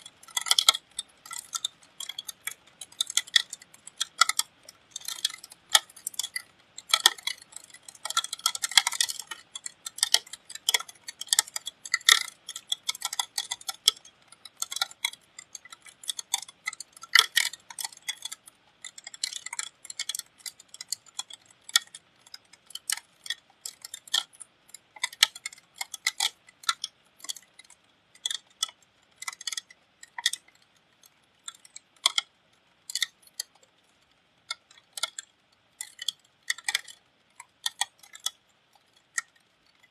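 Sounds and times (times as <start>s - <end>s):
raindrops ticking on metal casing: 0.0s - 39.9s.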